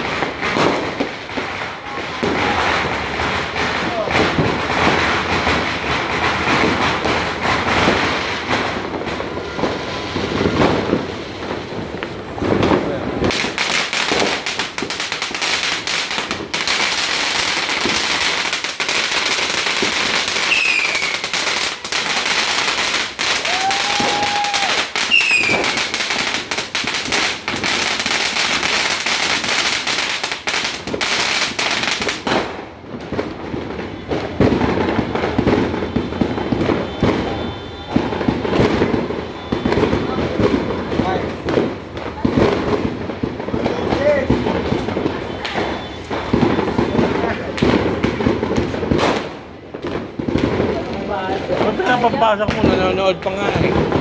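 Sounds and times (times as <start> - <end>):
firework fountains crackling: 0.0 - 54.0.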